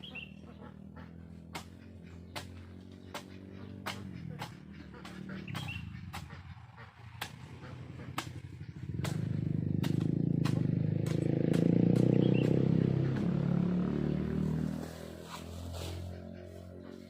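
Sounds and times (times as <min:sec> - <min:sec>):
motorcycle engine passing: 0:00.0 - 0:17.0.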